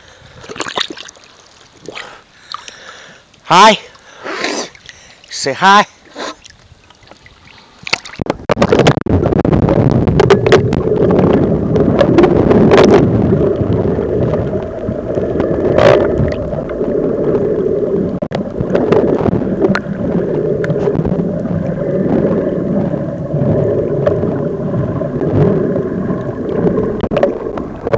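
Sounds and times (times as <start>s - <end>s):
water gurgling: 0.2s - 3.1s, 3.7s - 27.9s.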